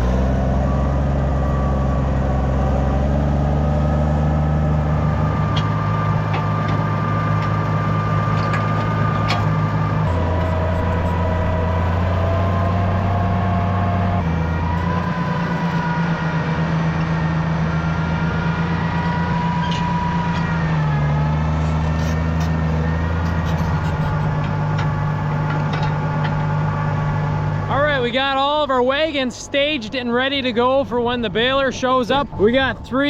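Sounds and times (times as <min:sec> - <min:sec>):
tractor engine under load: 0:00.0 - 0:33.0.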